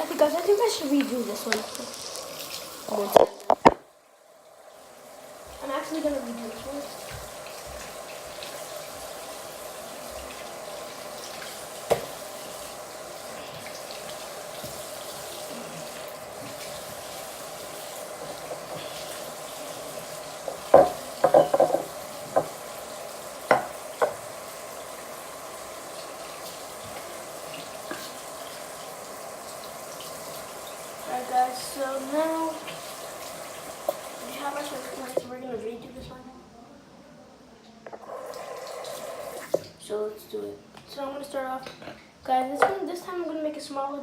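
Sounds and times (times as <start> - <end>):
tap water running into sink: 0.0 - 35.4, 37.8 - 39.8, 42.3 - 42.9.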